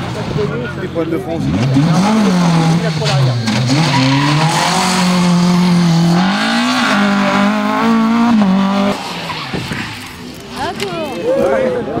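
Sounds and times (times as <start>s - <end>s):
car engine at high revs: 0.0s - 10.6s.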